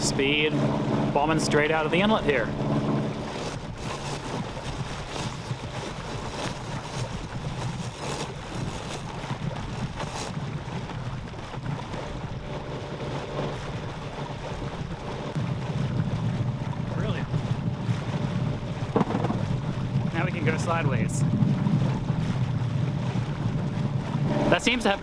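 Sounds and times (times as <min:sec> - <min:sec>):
boat engine droning: 0:00.0 - 0:25.0
wind buffeting microphone: 0:00.0 - 0:25.0
sail flapping and snapping: 0:02.7 - 0:25.0.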